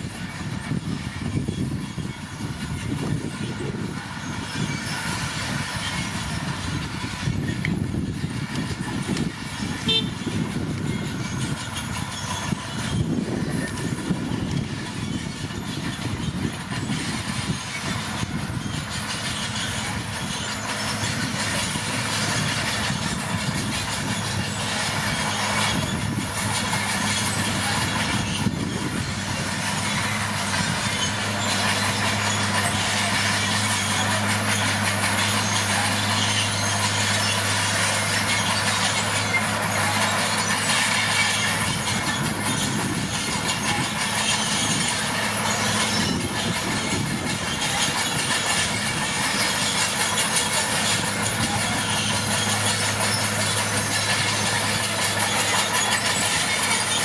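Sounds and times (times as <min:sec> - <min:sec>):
diesel engine under load: 0:00.0 - 0:57.0
steel tracks clattering: 0:00.0 - 0:57.0.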